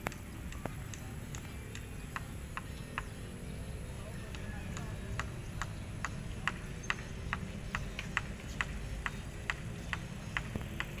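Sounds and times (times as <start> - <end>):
steady ticking: 0.0 - 11.0.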